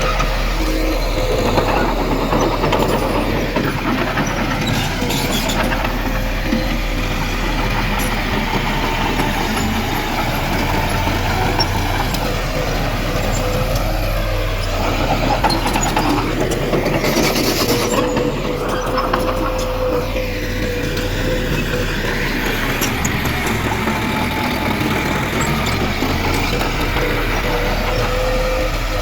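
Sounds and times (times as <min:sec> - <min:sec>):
diesel machinery engine rumbling: 0:00.0 - 0:29.0
engine whine: 0:00.0 - 0:29.0.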